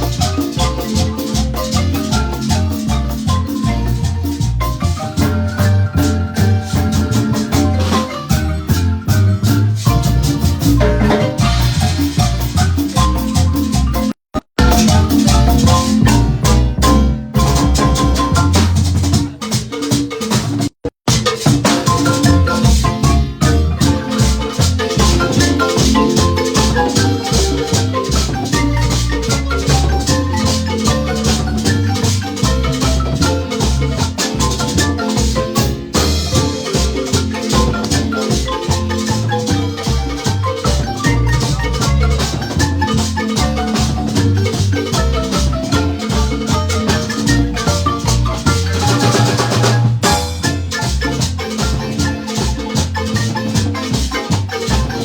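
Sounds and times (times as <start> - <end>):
marimba band playing: 0.0 - 55.0
shaker percussion: 0.0 - 55.0.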